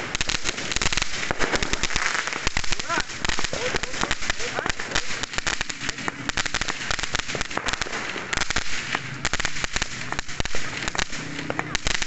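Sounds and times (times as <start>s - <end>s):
fireworks cracks and pops: 0.0s - 12.0s.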